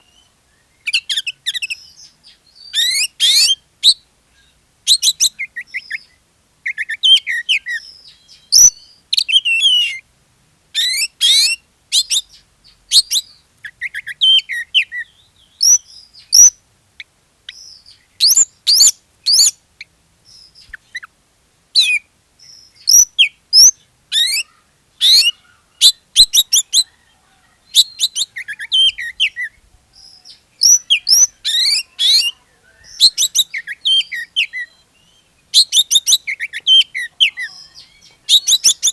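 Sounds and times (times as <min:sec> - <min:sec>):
bird singing whistles and chatter: 0:00.0 - 0:04.0, 0:04.9 - 0:10.0, 0:10.8 - 0:16.6, 0:17.5 - 0:19.6, 0:21.8 - 0:38.9.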